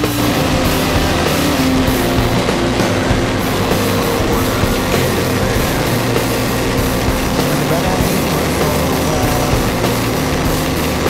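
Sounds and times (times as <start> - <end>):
rock music with distorted guitars: 0.0 - 11.0.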